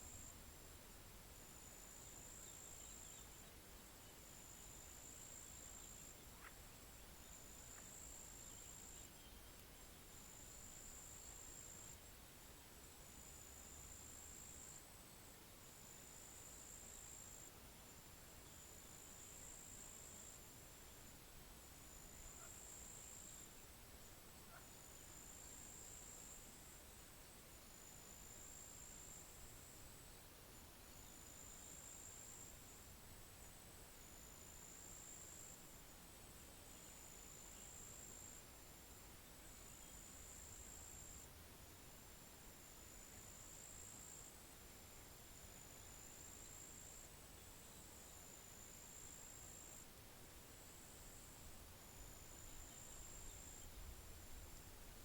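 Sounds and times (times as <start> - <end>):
faint chirps: 0.0 - 41.4, 50.6 - 55.0
faint steady hiss: 0.0 - 55.0.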